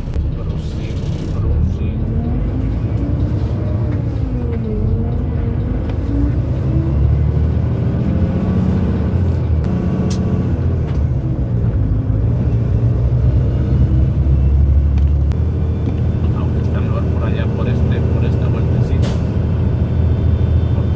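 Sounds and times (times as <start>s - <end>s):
truck engine rumbling: 0.0s - 20.9s.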